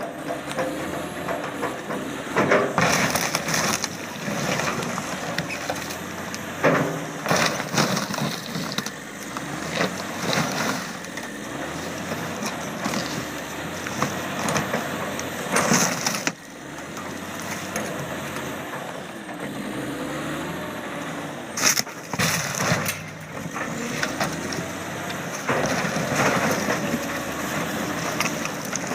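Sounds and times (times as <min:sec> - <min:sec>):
heavy loader engine straining: 0:00.0 - 0:28.9.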